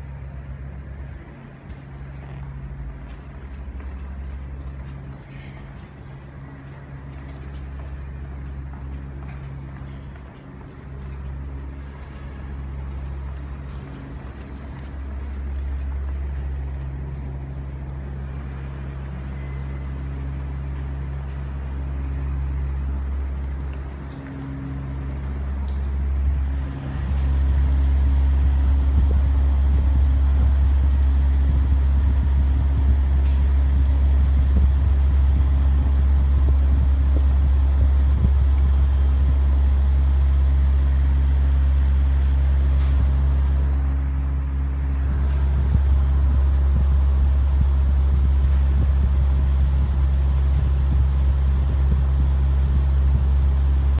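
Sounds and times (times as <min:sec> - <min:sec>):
exhaust fan droning: 0:00.0 - 0:54.0.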